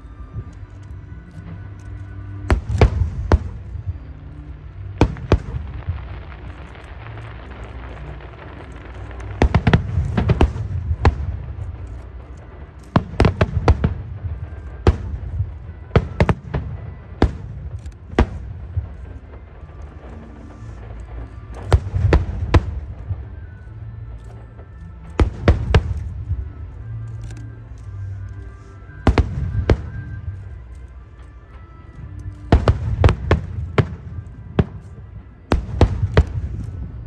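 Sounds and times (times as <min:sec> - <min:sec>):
low rumble: 0:00.0 - 0:37.0
fireworks bangs and cracks: 0:02.4 - 0:28.0, 0:29.0 - 0:30.8, 0:31.5 - 0:37.0.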